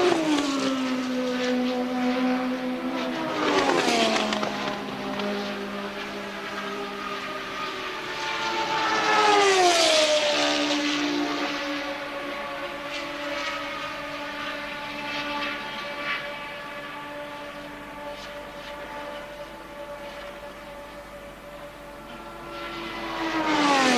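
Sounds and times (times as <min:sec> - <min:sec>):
race car passing at speed: 0:00.0 - 0:23.9
race engines: 0:00.0 - 0:23.9.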